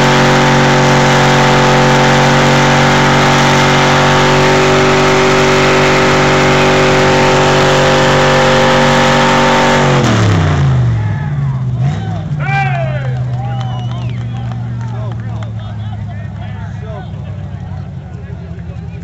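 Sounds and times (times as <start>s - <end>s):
truck churning through mud: 0.0s - 19.0s
truck engine revving: 0.0s - 19.0s.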